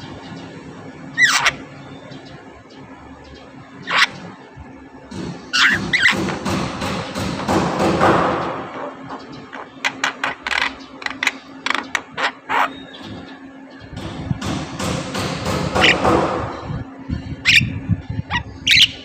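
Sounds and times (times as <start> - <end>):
myna bird calling: 0.0 - 4.4, 5.5 - 6.6, 8.0 - 14.1, 15.2 - 19.0.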